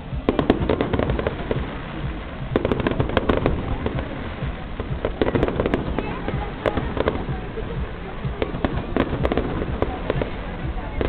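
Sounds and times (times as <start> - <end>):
fireworks crackling: 0.0 - 11.0
low rumble: 0.0 - 11.0.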